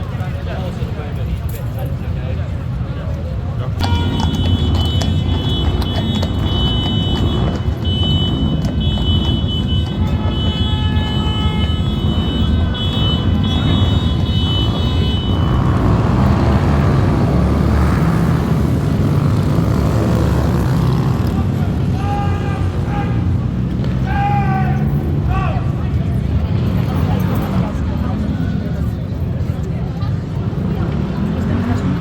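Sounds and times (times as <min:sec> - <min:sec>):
motorbike engines rumbling: 0:00.0 - 0:32.0.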